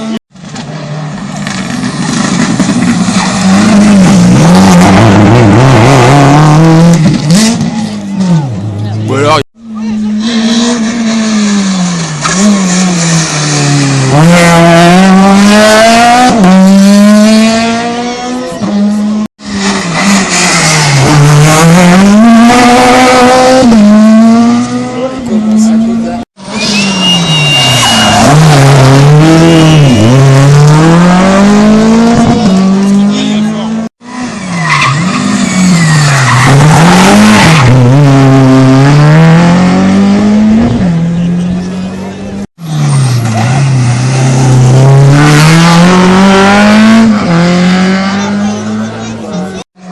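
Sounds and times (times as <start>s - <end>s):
rally car engine revving: 0.0s - 49.9s
tyres skidding: 0.4s - 49.9s.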